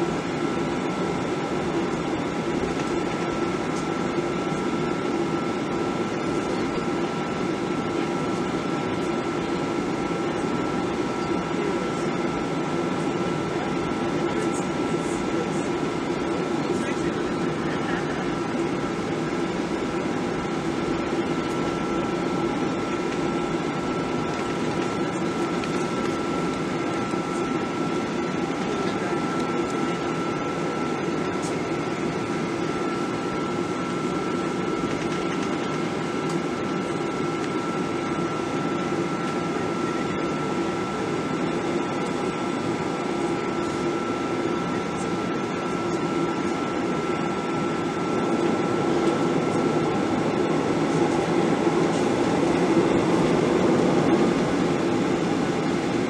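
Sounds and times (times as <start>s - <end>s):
jet engine and airflow hum: 0.0s - 56.0s
steady high whine: 0.0s - 56.0s.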